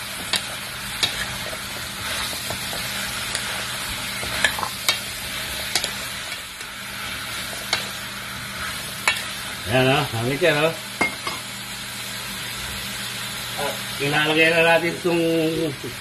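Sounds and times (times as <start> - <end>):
oil sizzling in a pot: 0.0 - 16.0.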